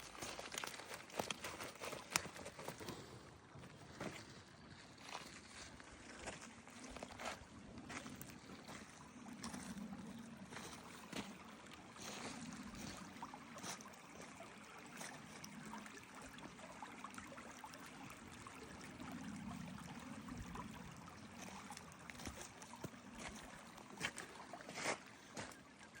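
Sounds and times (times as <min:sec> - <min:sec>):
stream running: 0:00.0 - 0:26.0.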